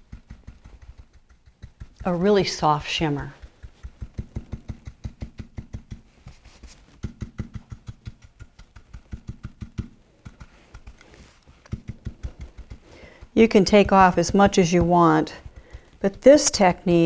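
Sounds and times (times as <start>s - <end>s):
brush dabbing on wood: 0.0s - 17.0s.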